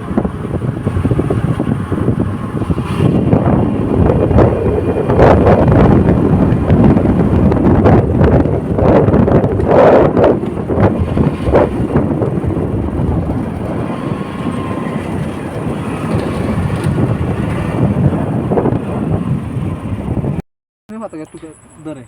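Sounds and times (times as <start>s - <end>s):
wind buffeting microphone: 0.0s - 20.4s.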